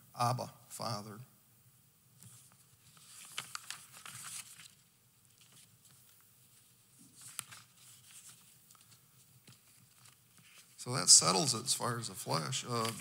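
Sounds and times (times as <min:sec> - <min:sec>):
paper sheets rustling: 0:02.2 - 0:13.0.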